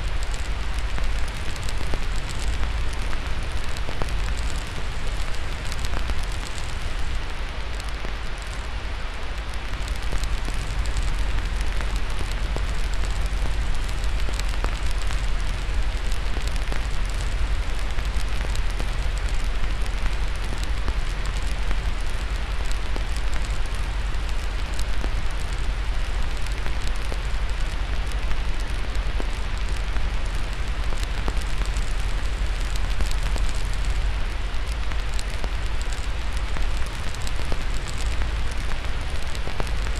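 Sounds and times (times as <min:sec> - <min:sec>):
white noise hiss: 0:00.0 - 0:39.9
wood fire crackling: 0:00.0 - 0:39.9.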